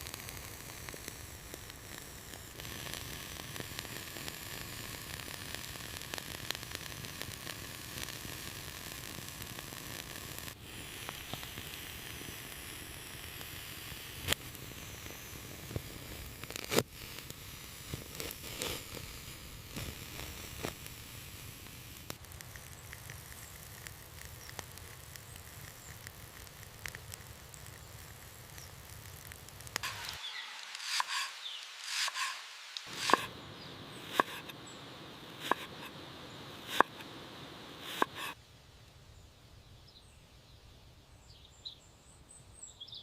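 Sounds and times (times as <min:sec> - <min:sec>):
wood fire crackling and popping: 0:00.0 - 0:38.4
steady hiss: 0:00.0 - 0:39.7.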